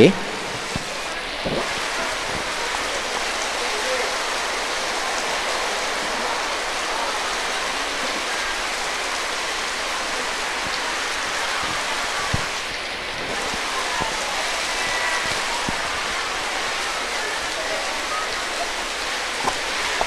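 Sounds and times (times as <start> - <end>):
steady hissing noise: 0.0 - 20.0.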